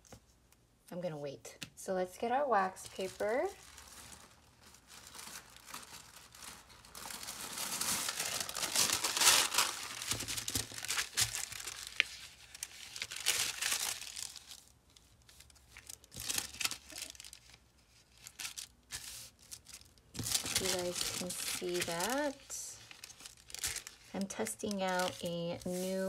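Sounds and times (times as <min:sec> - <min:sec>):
wax paper crinkling: 0:02.6 - 0:26.0.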